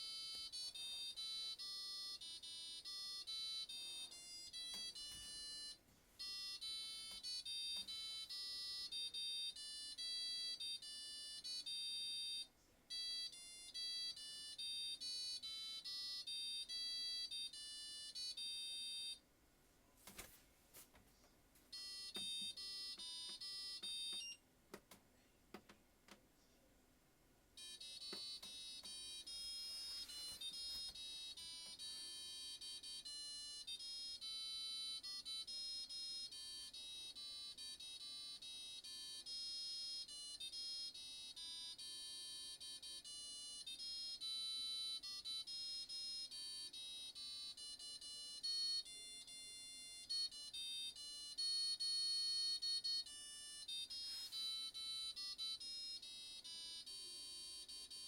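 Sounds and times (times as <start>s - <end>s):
washing machine beeper melody: 0.0s - 19.2s, 21.7s - 24.4s, 27.6s - 58.0s.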